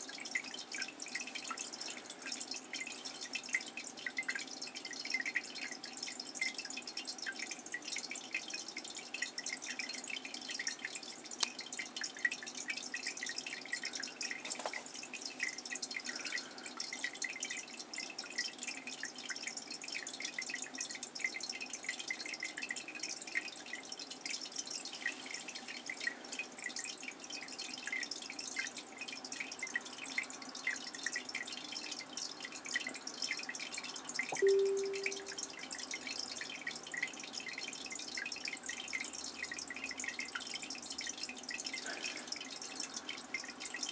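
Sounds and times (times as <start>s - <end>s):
water dripping and trickling: 0.0s - 43.9s.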